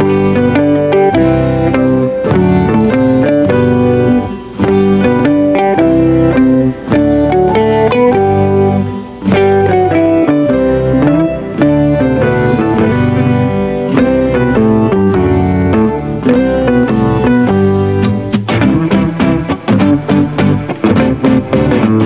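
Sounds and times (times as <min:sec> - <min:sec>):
plucked guitar melody: 0:00.0 - 0:22.0.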